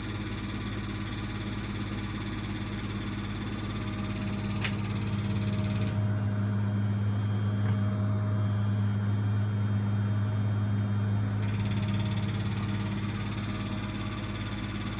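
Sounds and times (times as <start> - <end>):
washing machine spinning: 0.0 - 14.9.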